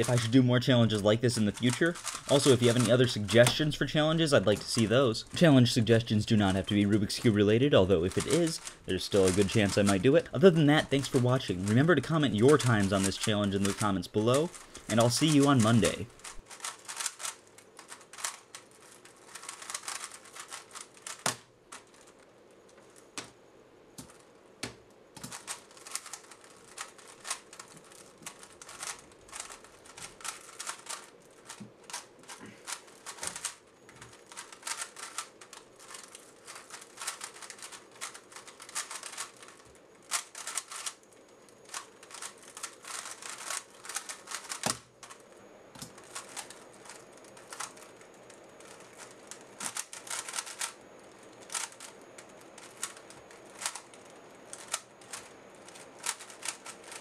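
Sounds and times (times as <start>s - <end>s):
puzzle cube plastic clicking: 0.0s - 23.4s, 24.0s - 45.2s, 45.8s - 57.0s.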